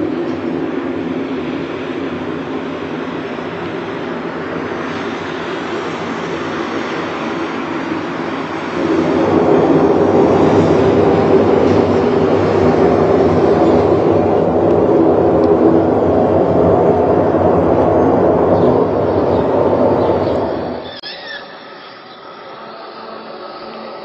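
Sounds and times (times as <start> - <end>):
loud low rumbling drone: 0.0 - 21.6.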